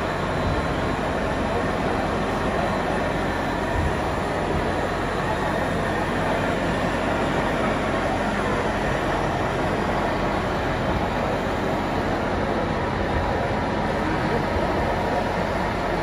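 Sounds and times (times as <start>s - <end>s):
exhibition hall rumbling din: 0.0s - 16.0s.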